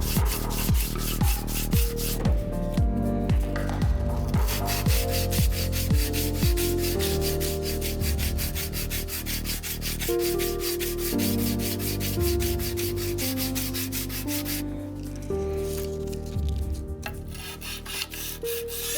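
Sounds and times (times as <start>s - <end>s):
sandpaper rasping on steel blade: 0.0s - 2.7s, 4.4s - 15.1s, 17.1s - 18.9s
background music with steady beat: 0.0s - 18.9s.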